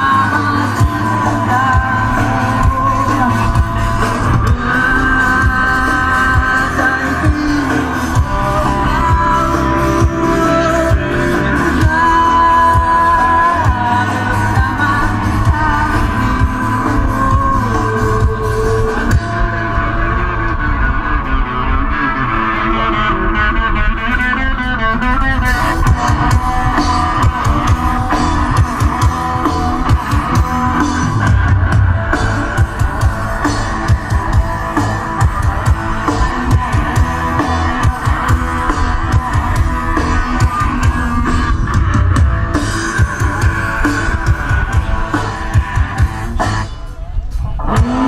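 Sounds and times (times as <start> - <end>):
drum kit: 0.0 - 20.3, 25.4 - 48.0
bass: 0.0 - 48.0
electric guitar: 0.0 - 48.0.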